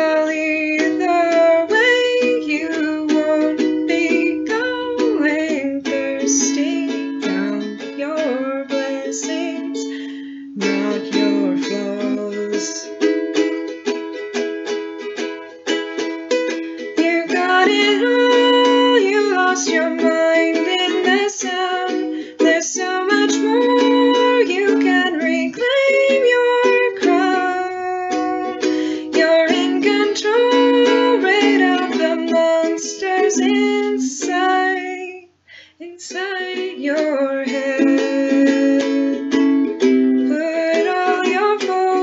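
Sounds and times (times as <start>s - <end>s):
ukulele strumming: 0.0s - 35.2s, 35.9s - 42.0s.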